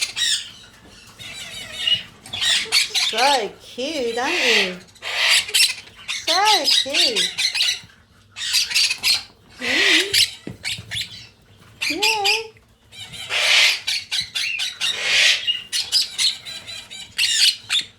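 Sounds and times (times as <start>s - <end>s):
parrot chicks squawking: 0.0s - 17.9s.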